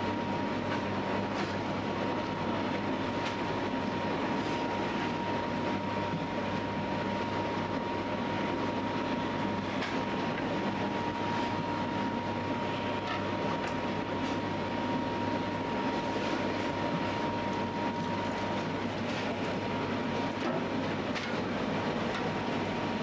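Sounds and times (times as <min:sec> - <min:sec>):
dough mixer humming and whining: 0:00.0 - 0:23.0.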